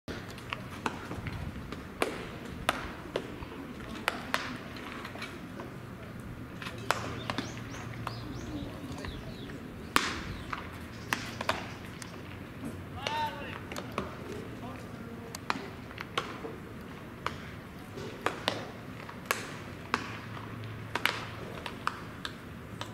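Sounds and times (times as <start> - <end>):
baseballs smacking into gloves: 0.1 - 5.7, 6.6 - 22.9
murmur of distant voices: 0.1 - 22.9.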